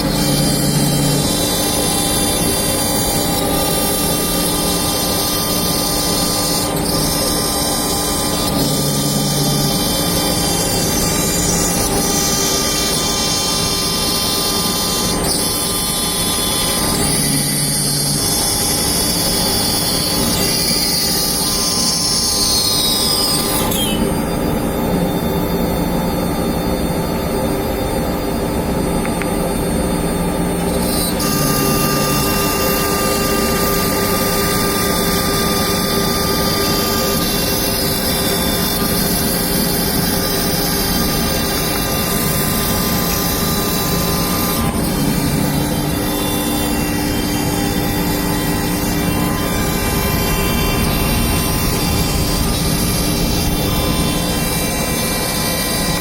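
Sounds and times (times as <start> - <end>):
router spindle cutting whine: 0.0 - 56.0.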